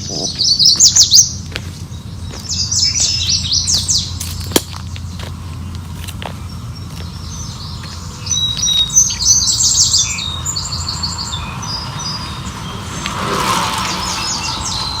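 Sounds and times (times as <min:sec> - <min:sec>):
songbirds chirping and trilling: 0:00.0 - 0:15.0
steady low rumble: 0:00.0 - 0:15.0.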